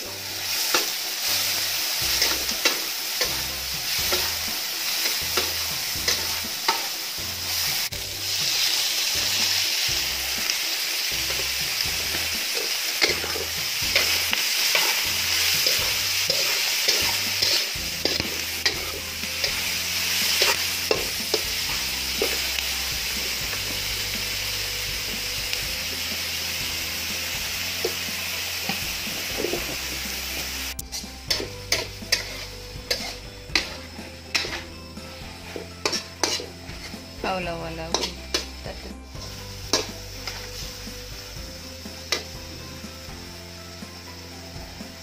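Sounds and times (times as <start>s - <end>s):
metal spatula scraping a pan: 0.0s - 24.0s, 27.0s - 37.2s, 37.8s - 41.0s
food sizzling in hot oil: 0.0s - 45.0s.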